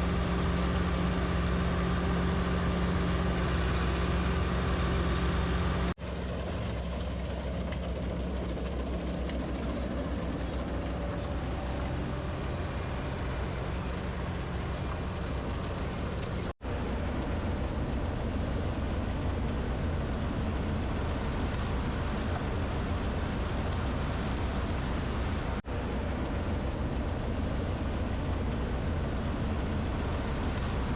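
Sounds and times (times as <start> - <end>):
combine harvester engine drone: 0.0 - 30.9.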